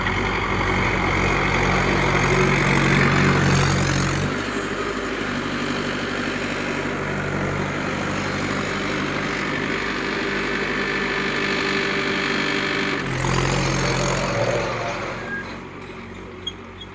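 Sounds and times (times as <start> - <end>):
diesel tractor engine idling: 0.0 - 16.9.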